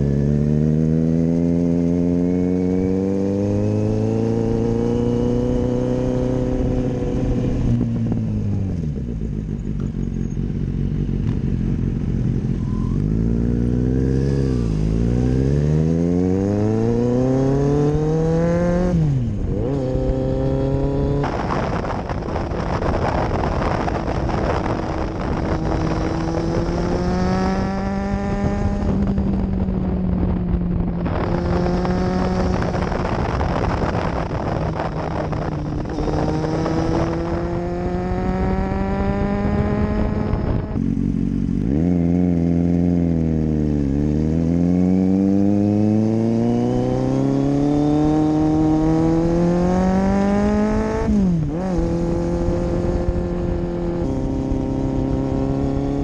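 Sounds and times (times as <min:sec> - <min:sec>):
motorcycle engine accelerating: 0:00.0 - 0:56.0
wind noise: 0:00.0 - 0:56.0.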